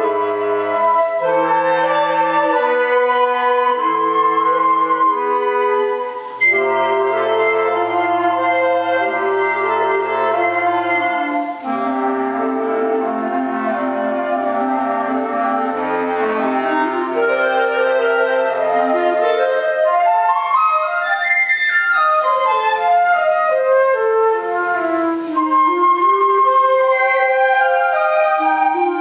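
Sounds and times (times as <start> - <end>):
woodwind ensemble playing chords: 0.0 - 29.0.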